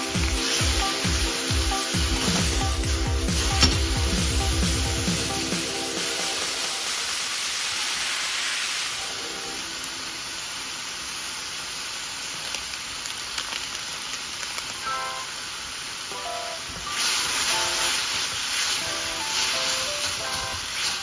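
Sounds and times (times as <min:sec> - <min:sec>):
meat and leek sizzling in a wok: 0:00.0 - 0:21.0.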